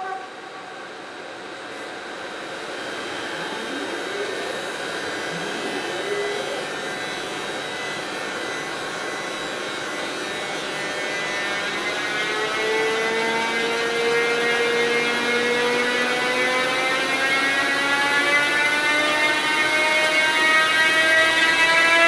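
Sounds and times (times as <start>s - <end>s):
electric locomotive motor whine: 0.0s - 22.0s.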